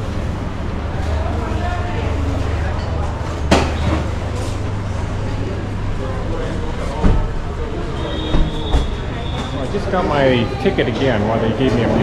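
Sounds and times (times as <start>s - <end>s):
faint background voices: 0.7s - 12.0s.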